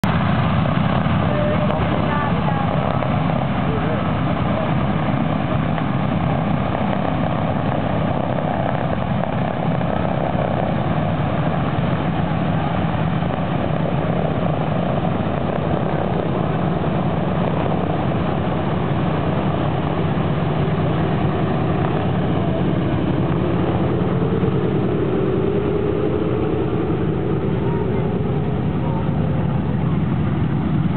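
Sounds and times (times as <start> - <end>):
radial engines droning: 0.0 - 30.9.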